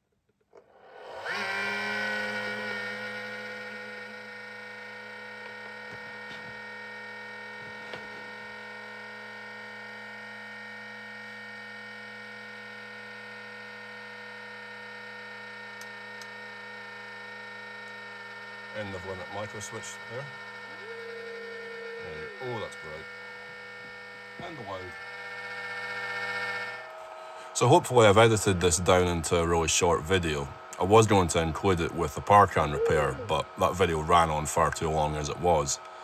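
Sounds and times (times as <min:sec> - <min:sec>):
stepper motors whining: 0:00.5 - 0:36.0.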